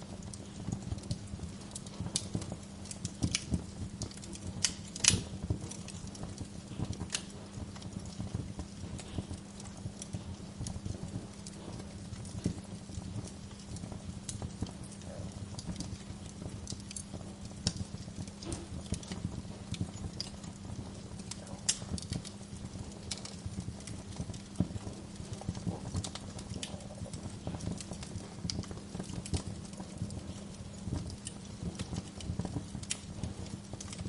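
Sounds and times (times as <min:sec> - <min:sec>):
steady low hum: 0:00.0 - 0:34.0
wood fire crackling: 0:00.0 - 0:34.0.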